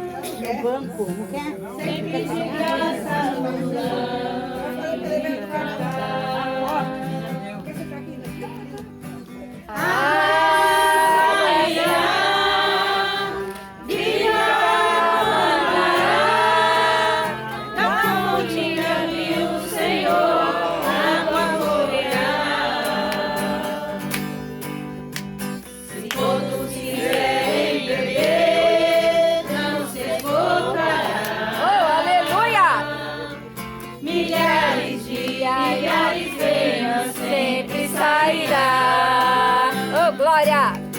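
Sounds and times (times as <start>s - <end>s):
group singing a hymn: 1.1s - 7.9s, 9.7s - 25.0s, 25.6s - 40.2s.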